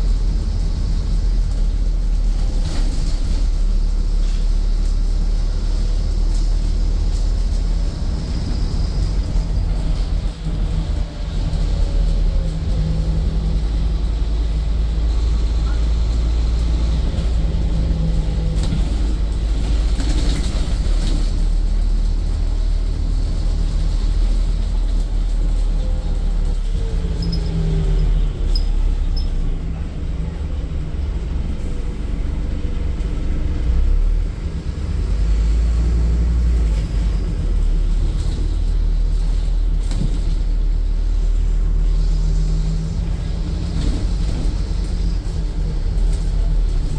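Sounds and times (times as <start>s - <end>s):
bus engine rumble: 0.0s - 46.9s
road noise: 0.0s - 46.9s.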